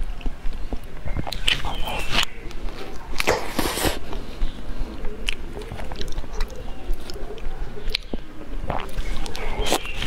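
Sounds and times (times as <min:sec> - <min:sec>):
chewing and biting soft fruit: 0:00.0 - 0:10.0.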